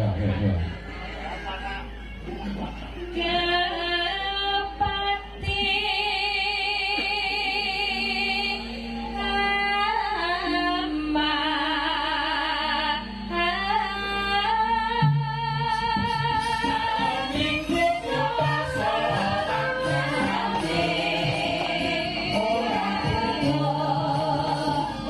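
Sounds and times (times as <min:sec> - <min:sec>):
sustained instrumental notes: 0:00.0 - 0:05.8, 0:07.6 - 0:25.0
woman singing with vibrato: 0:03.1 - 0:25.0.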